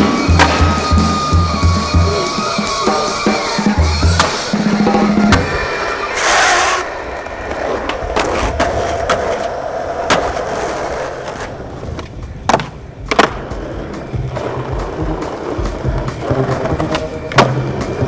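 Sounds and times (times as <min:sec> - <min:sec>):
skateboard clacks: 0:00.0 - 0:18.0
skateboard wheels rolling on wood: 0:00.0 - 0:18.0.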